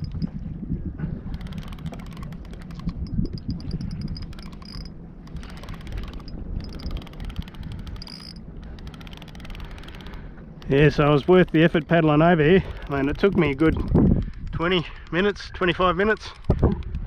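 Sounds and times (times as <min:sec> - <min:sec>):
wind rumble on microphone: 0:00.0 - 0:17.0
fishing reel clicking: 0:01.3 - 0:17.0.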